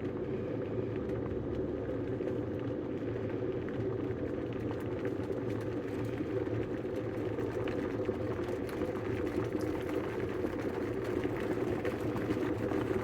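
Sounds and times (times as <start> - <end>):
kettle water boiling: 0.0 - 13.0.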